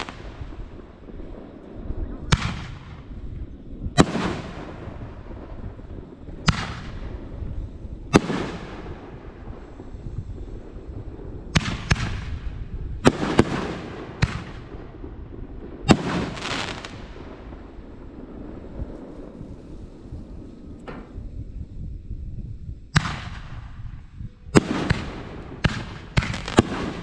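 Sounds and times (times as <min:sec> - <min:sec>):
fireworks bangs: 0:00.0 - 0:27.0
steady low rumble: 0:00.0 - 0:27.0.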